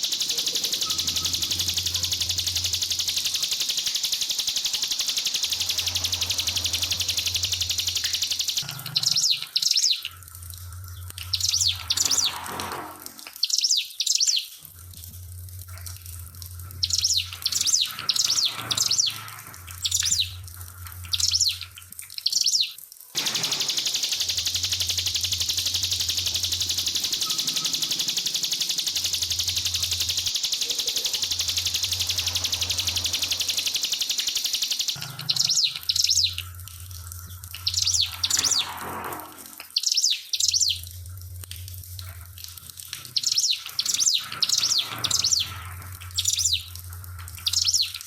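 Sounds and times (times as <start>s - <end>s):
bird chirping and trilling: 0.0s - 10.2s, 11.2s - 12.5s, 13.4s - 14.6s, 16.8s - 36.6s, 37.2s - 38.8s, 39.6s - 40.8s, 43.1s - 46.8s, 47.4s - 48.0s
trickling water: 0.0s - 48.0s.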